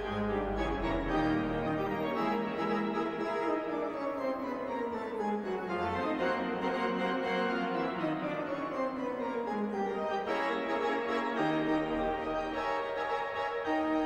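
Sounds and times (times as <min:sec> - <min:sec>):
pipe organ music: 0:00.0 - 0:14.0.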